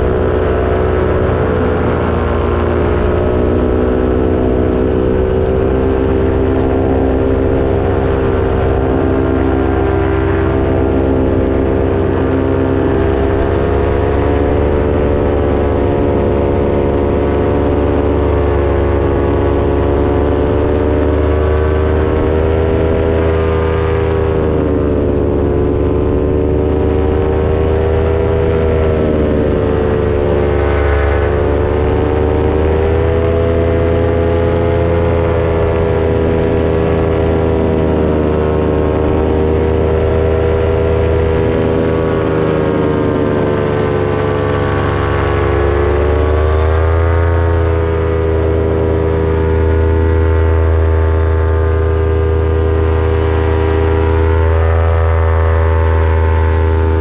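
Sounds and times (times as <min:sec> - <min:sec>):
paramotor engine droning: 0:00.0 - 0:57.0.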